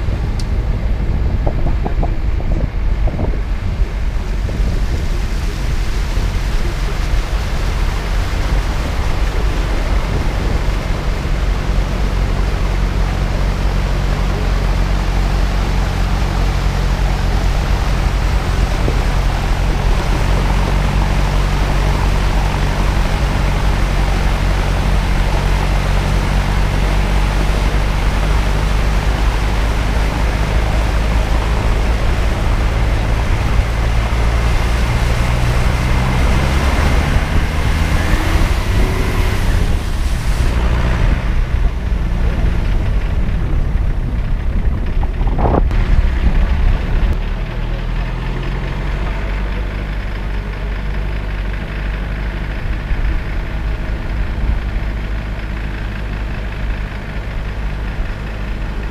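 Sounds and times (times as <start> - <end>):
vehicle engine running under load: 0.0 - 58.9
water rushing and splashing: 0.0 - 58.9.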